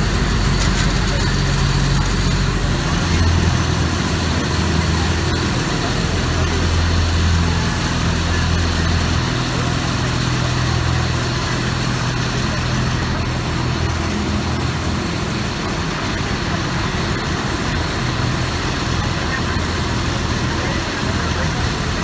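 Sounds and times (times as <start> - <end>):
road and traffic noise: 0.0 - 22.0
vehicle engine running: 0.0 - 22.0.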